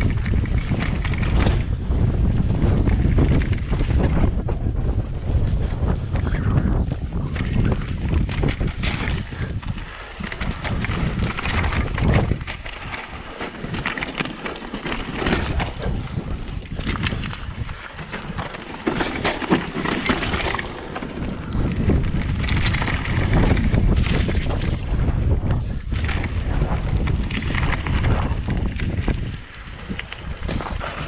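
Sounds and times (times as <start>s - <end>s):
bike tyres clattering over rocks: 0.0s - 4.6s, 6.7s - 31.0s
wind buffeting microphone: 0.0s - 31.0s.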